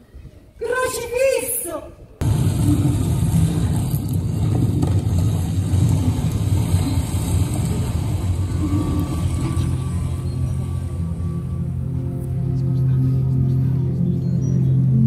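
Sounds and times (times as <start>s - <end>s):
loud low rumble: 2.2s - 15.0s.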